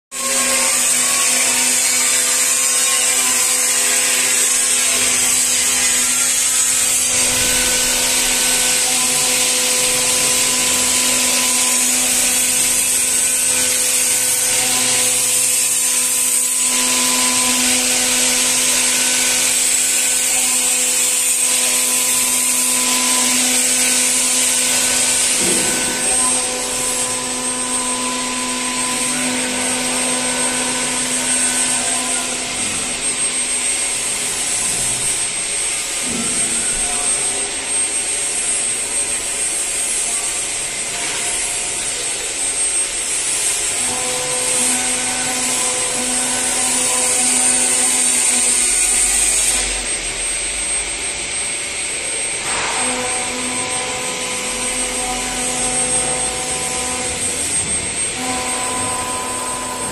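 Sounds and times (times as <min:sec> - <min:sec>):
cutter milling wood: 0:00.1 - 0:59.9.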